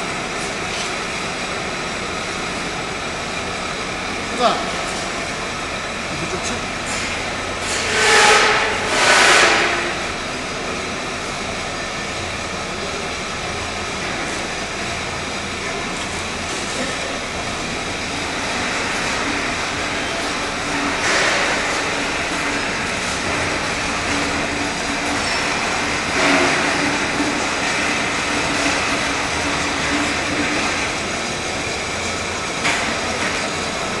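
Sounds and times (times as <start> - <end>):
textile compactor mechanical drone: 0.0 - 34.0.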